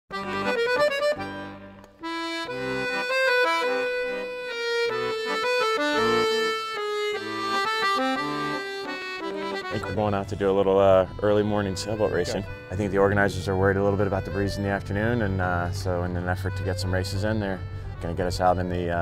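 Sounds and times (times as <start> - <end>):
melody over bass line: 0.1 - 19.0.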